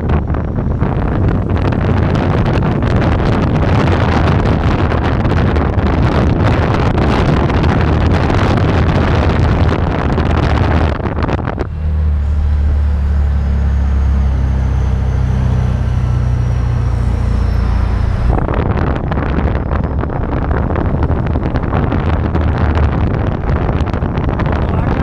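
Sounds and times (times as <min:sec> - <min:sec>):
low engine drone: 0:00.0 - 0:25.0
wind and road noise: 0:00.0 - 0:25.0.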